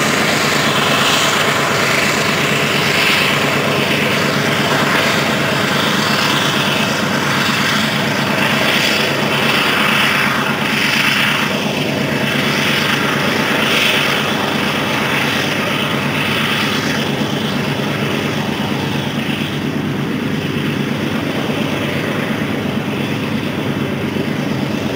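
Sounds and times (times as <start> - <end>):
diesel locomotive engine droning: 0.0 - 24.9
train rolling noise: 0.0 - 24.9.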